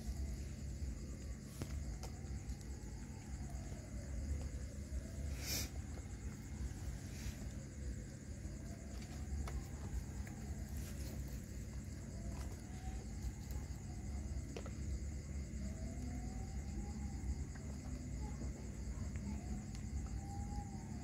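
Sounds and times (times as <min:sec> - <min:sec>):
constant low rumble: 0:00.0 - 0:21.0
crickets chirping: 0:00.0 - 0:21.0.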